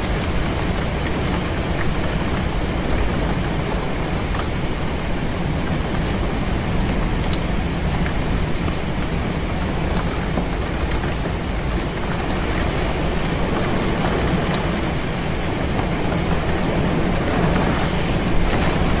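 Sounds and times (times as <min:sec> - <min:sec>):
heavy rain and wind on window: 0:00.0 - 0:19.0
raindrops ticking: 0:00.0 - 0:19.0.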